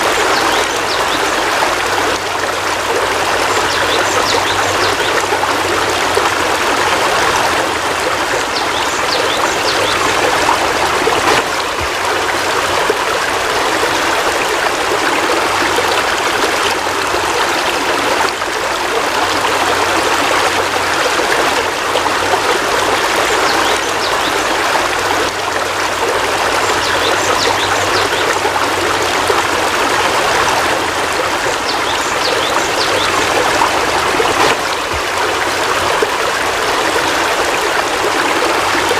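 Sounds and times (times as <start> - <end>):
heavy rain falling: 0.0 - 26.8, 27.4 - 38.9.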